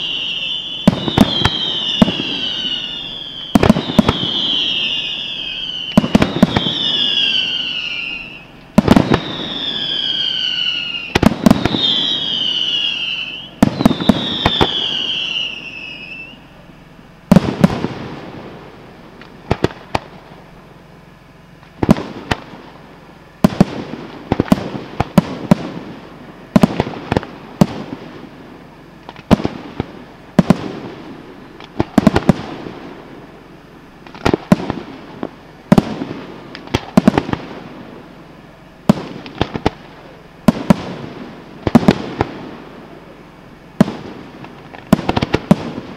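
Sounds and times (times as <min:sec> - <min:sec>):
falling firework whistles: 0:00.0 - 0:20.8, 0:21.7 - 0:45.9
fireworks bangs: 0:00.0 - 0:20.8, 0:21.6 - 0:45.9
fireworks crackling: 0:00.0 - 0:45.9.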